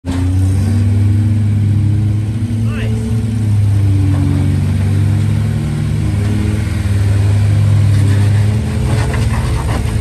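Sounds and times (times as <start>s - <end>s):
vehicle engine running low: 0.0s - 10.0s.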